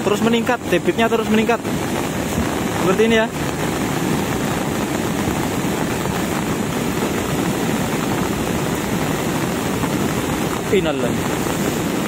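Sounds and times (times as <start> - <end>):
muddy water rushing with debris: 0.0 - 12.0.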